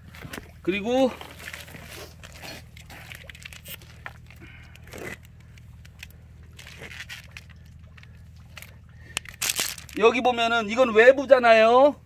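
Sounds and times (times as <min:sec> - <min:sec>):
plastic hose rustling and scraping: 0:00.0 - 0:10.2
steady low hum: 0:00.0 - 0:12.0.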